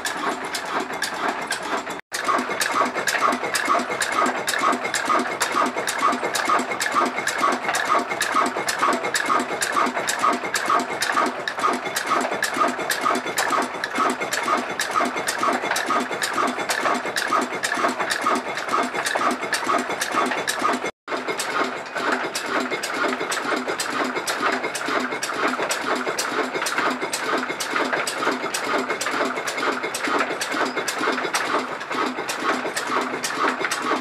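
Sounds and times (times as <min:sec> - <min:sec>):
diesel engine running: 0:00.0 - 0:34.0
valve gear ticking: 0:00.0 - 0:34.0.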